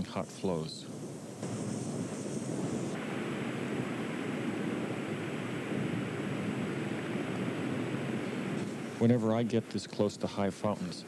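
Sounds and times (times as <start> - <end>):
volcanic vent roaring: 0.0 - 9.7.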